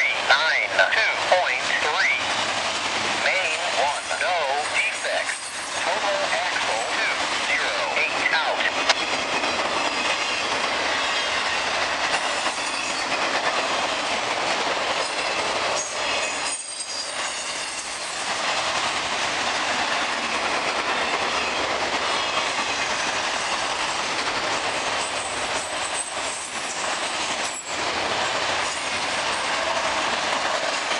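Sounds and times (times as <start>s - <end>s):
freight train rolling past: 0.0s - 30.9s.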